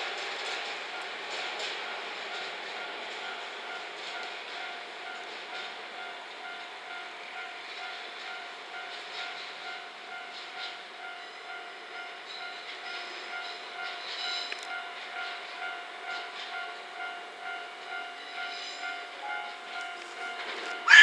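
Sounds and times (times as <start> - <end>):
diesel locomotive engine and rail noise: 0.0 - 21.0.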